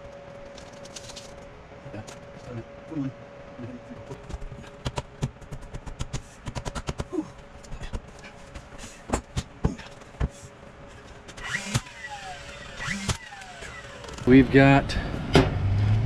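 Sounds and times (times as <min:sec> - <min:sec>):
faint steady hum: 0:00.0 - 0:15.4.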